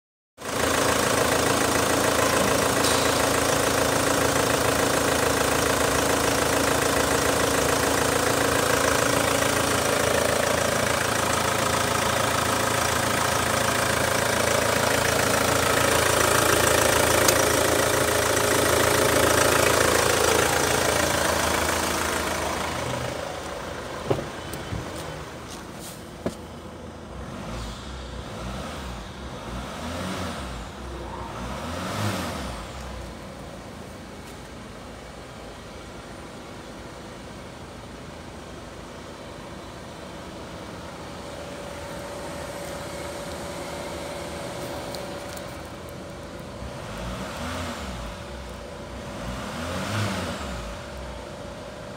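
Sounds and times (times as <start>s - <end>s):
diesel engine idling: 0.4s - 51.9s.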